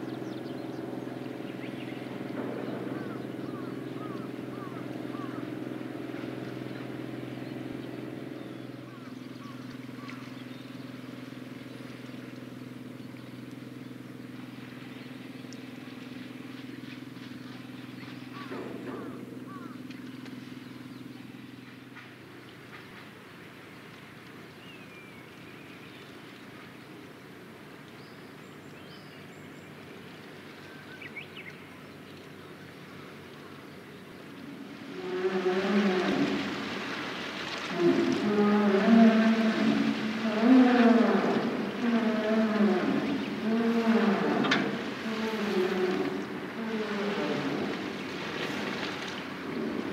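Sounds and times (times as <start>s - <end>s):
engine humming steadily: 0.0s - 49.9s
low rumble of harbour ambience: 0.0s - 49.9s.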